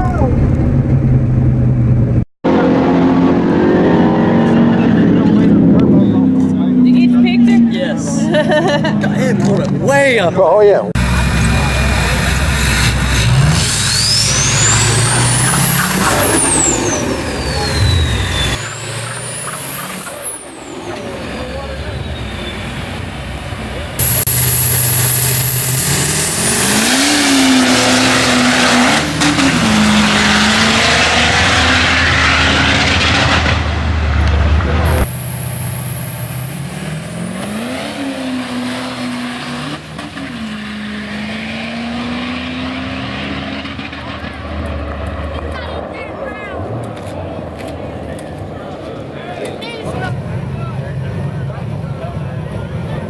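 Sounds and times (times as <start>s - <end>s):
drag racing engine whine: 0.3s - 53.0s.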